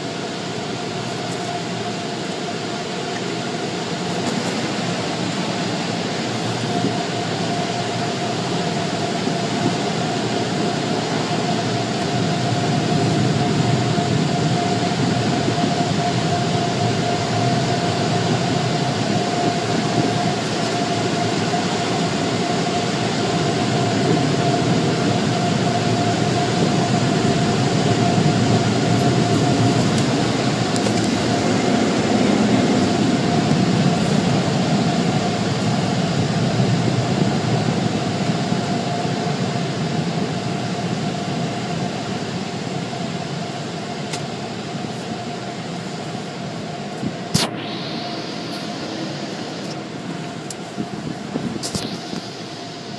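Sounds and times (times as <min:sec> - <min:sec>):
car wash machinery roar: 0:00.0 - 0:52.9
mid-pitched machine whine: 0:00.0 - 0:52.9.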